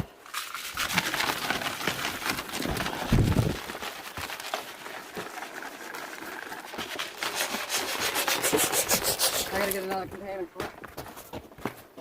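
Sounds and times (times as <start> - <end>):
rock salt crackling and scraping: 0.2 - 11.3.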